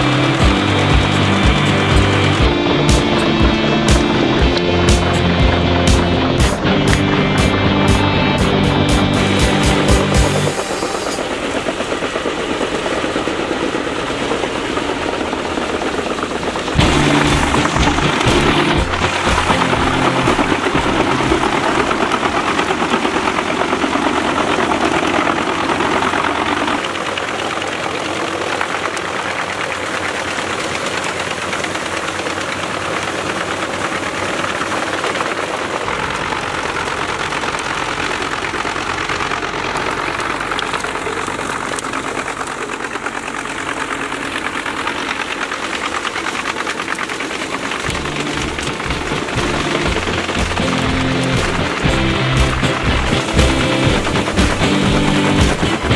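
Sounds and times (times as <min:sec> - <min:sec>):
wood chipper chipping branches: 0:00.0 - 0:55.9.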